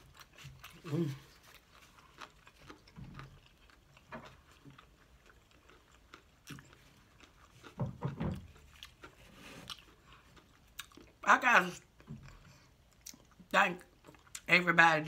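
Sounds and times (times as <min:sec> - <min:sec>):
chewing with wet smacks: 0:00.0 - 0:11.2, 0:11.8 - 0:14.5.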